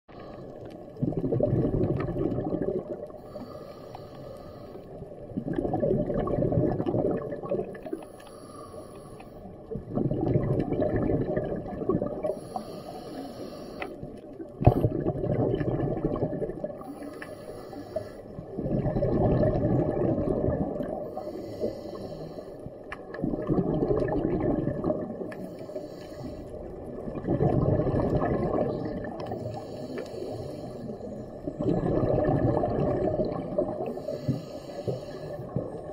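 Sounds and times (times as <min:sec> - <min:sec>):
exhaled bubbles rumbling underwater: 0:00.0 - 0:35.9.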